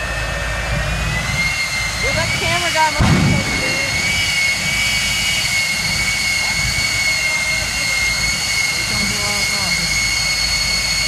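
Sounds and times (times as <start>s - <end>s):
jet engine whine and roar: 0.0s - 11.0s.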